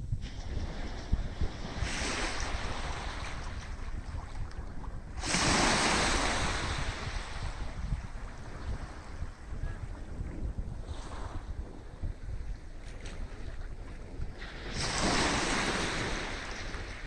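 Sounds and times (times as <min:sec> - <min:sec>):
wind rumble on microphone: 0:00.0 - 0:17.0
sea waves washing onto beach: 0:00.2 - 0:17.0.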